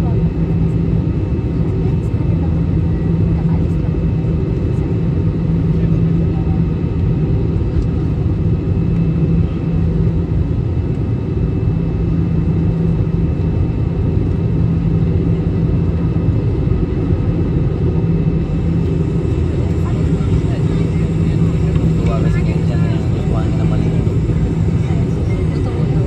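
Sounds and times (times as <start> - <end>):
airliner engine and airflow drone: 0.0 - 26.0.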